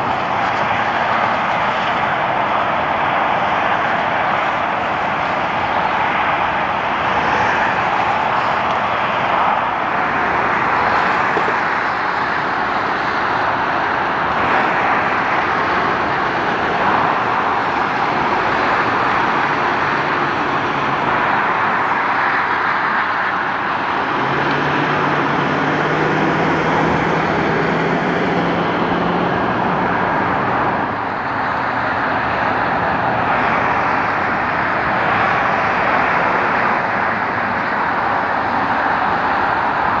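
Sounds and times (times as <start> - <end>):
engine hum: 0.0 - 40.0
motorway traffic noise: 0.0 - 40.0.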